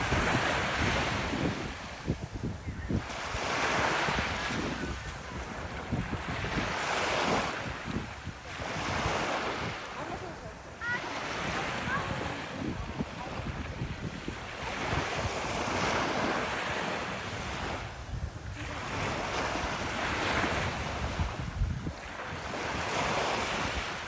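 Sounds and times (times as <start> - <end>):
ocean surf breaking: 0.0 - 24.0
wind buffeting microphone: 0.0 - 24.0.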